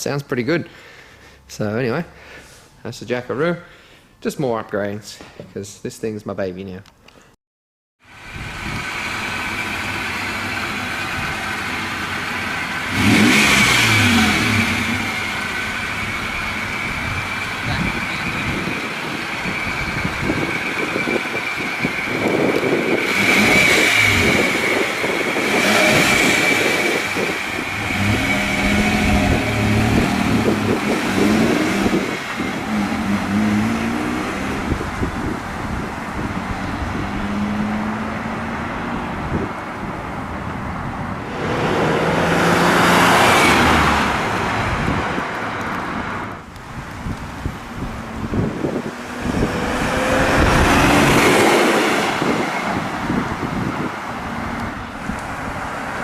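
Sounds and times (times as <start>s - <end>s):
car engine revving: 8.3s - 56.0s.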